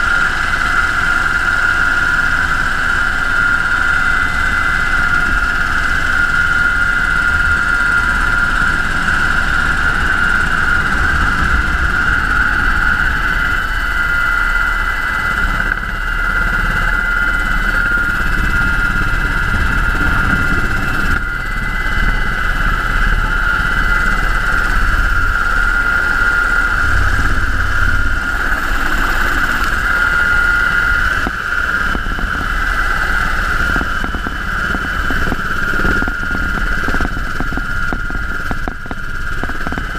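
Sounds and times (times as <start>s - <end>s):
helicopter in flight: 0.0s - 39.9s.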